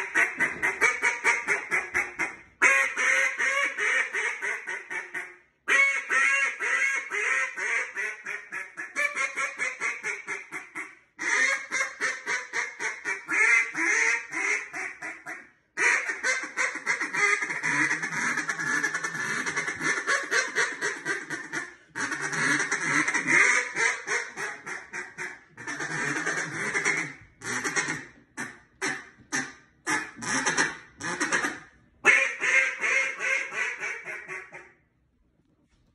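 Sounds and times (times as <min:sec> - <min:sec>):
duck call quacks: 0:00.0 - 0:34.8.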